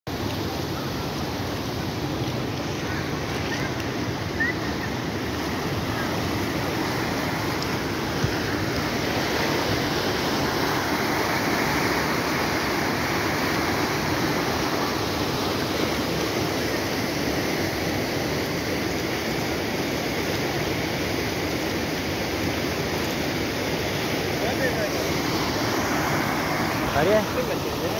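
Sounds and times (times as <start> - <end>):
floodwater rushing: 0.1 - 27.9.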